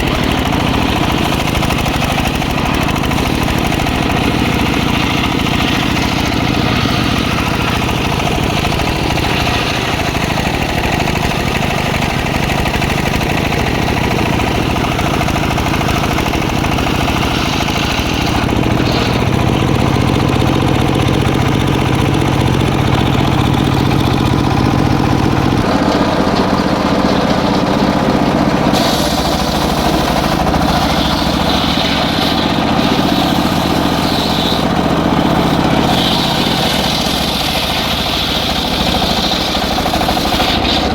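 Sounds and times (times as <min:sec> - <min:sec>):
circular sawmill ripping wood: 0:00.0 - 0:40.9.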